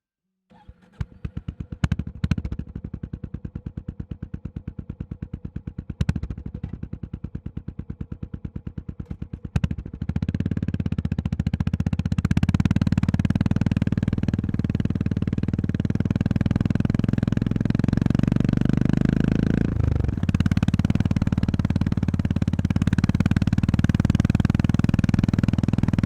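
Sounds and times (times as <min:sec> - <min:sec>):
motorcycle engine starting and idling: 0:00.5 - 0:26.0.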